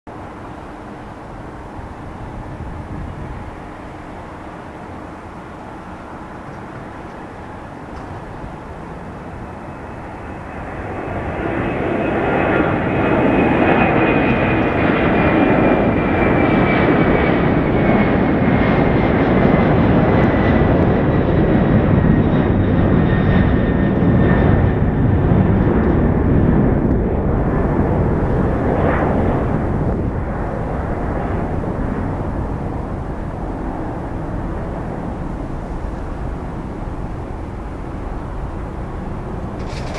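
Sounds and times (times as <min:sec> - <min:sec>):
jet engine roar at takeoff: 0:00.1 - 0:39.9.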